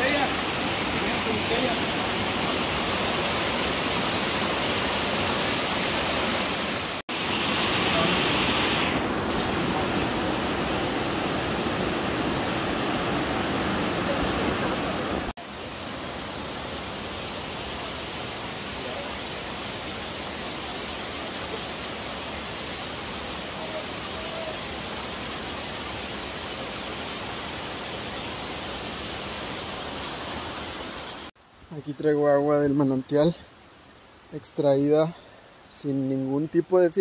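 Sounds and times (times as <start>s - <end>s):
running spring water: 0.0s - 37.0s.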